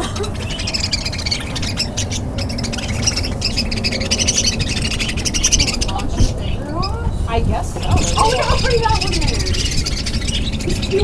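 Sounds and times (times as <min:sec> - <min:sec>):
birds chirping and chattering: 0:00.0 - 0:11.0
low rumble: 0:00.0 - 0:11.0.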